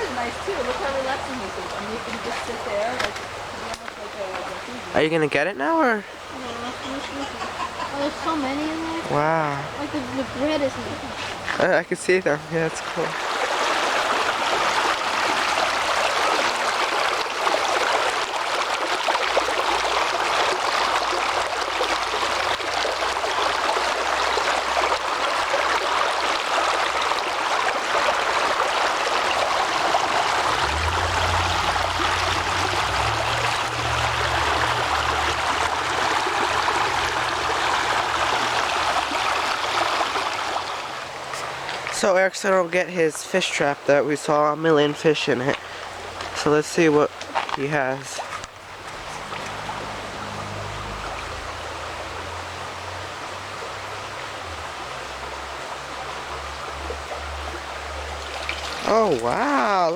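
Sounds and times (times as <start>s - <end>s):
creek rushing over rocks: 0.0s - 59.9s.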